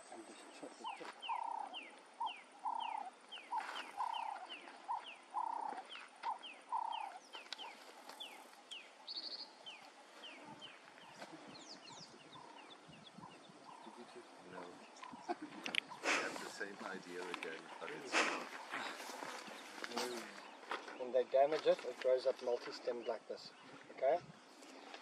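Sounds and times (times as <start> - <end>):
birds calling: 0.0 - 25.0.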